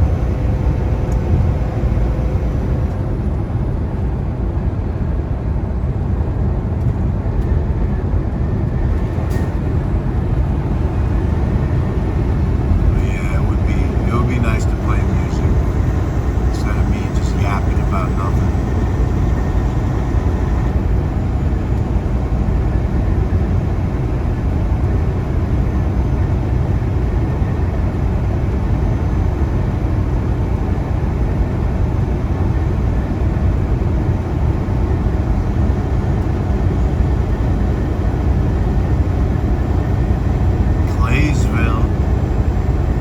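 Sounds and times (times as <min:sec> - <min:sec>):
diesel engine low rumble: 0:00.0 - 0:43.0.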